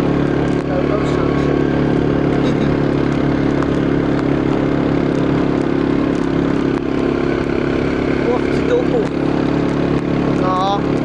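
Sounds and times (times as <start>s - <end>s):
quad bike engine droning: 0.0s - 11.0s.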